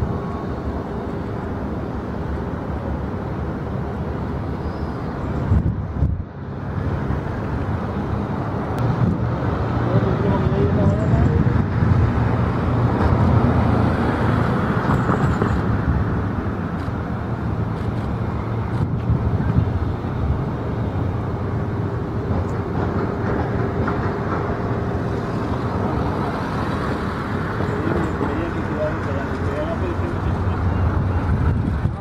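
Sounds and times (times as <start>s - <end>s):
engine noise: 0.0s - 32.0s
traffic noise: 0.0s - 32.0s.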